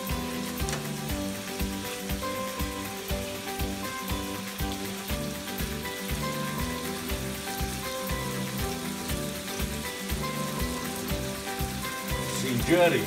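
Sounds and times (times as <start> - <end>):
background music with steady beat: 0.0 - 13.0
chicken sizzling in oil: 0.0 - 13.0.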